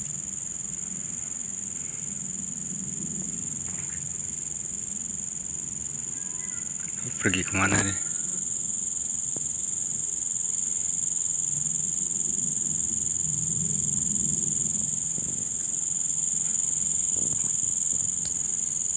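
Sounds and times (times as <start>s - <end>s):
high-pitched insect drone: 0.1s - 18.9s.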